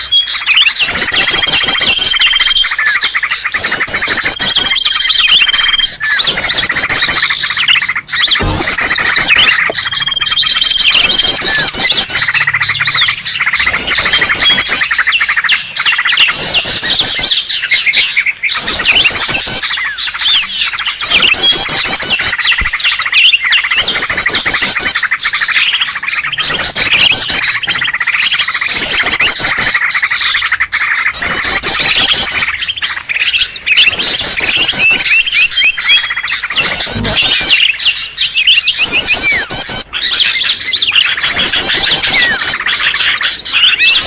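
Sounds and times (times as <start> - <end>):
bird calls and trills: 0.0 - 44.0.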